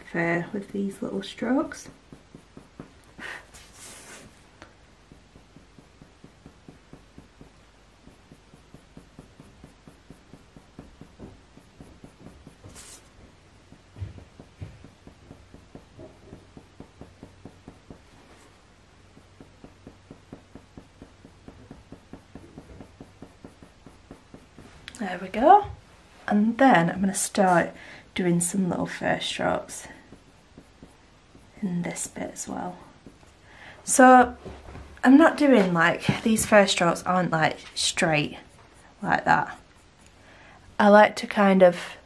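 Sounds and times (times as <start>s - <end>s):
soft bumps: 0.0s - 40.2s
pencil scratching on paper: 0.1s - 25.6s, 26.4s - 34.4s, 35.2s - 42.0s.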